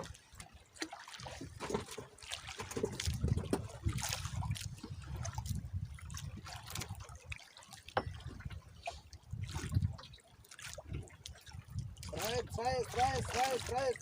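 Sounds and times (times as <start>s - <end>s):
water lapping around boat: 0.0s - 14.0s.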